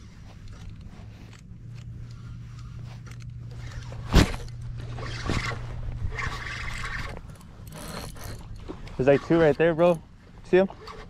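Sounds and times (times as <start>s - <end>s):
handling rustling and swishing: 0.0s - 11.0s
low steady hum: 0.0s - 11.0s.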